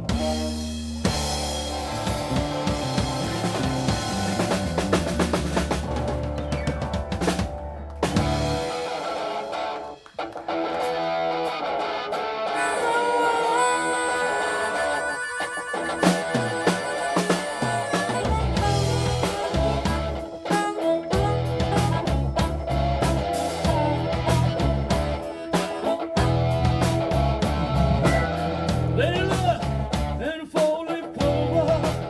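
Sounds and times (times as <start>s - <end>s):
electric guitar bending notes: 0.0s - 30.3s
live rock band playing: 0.0s - 32.0s.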